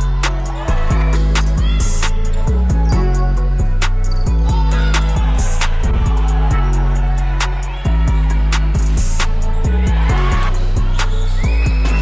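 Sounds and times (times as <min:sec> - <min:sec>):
music with bass and drum beat: 0:00.0 - 0:12.0.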